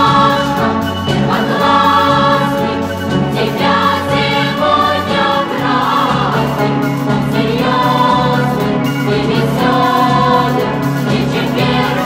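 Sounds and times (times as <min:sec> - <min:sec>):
choir singing held notes: 0:00.0 - 0:12.0.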